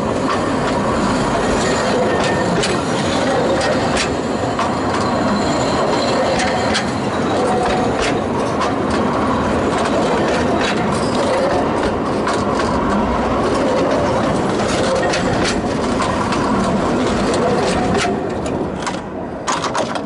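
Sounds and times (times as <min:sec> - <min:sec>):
train wagons rolling over rails: 0:00.0 - 0:20.0
wheelsets clicking on rails: 0:01.5 - 0:20.0.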